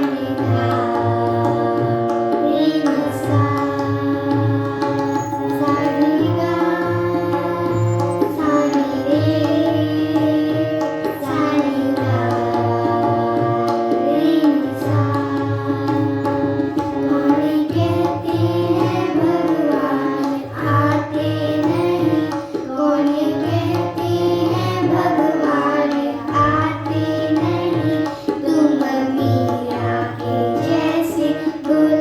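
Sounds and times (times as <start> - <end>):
held melodic notes: 0.0 - 32.0.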